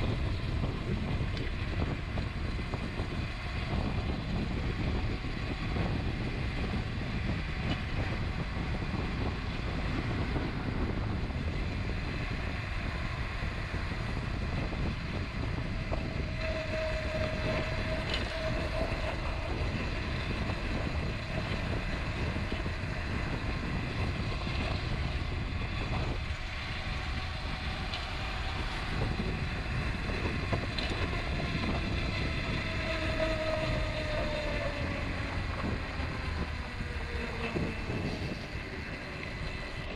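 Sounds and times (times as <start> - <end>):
bike rolling on trail: 0.0 - 39.9
wind on microphone: 0.0 - 39.9.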